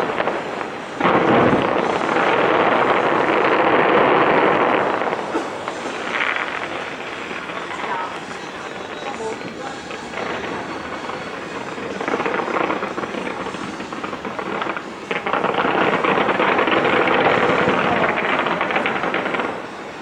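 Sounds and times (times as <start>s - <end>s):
fireworks bursts and crackles: 0.0s - 20.0s.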